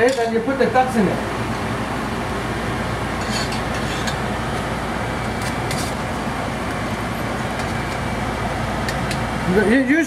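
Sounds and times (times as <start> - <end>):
kitchen fan humming: 0.0 - 10.0.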